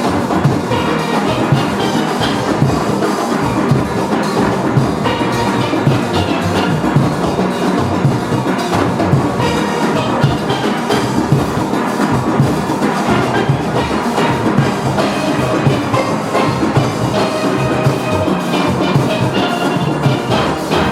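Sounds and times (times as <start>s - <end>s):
drums and percussion beat: 0.0s - 20.9s
steelband playing: 0.0s - 20.9s.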